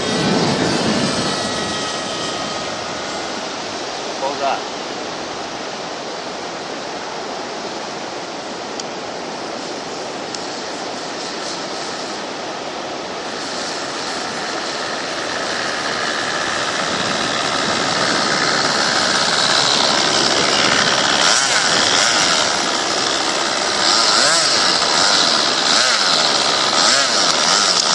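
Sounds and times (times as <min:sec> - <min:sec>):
model airplane engine buzzing: 0:00.0 - 0:07.0, 0:08.6 - 0:27.9
wind noise on microphone: 0:00.0 - 0:27.9.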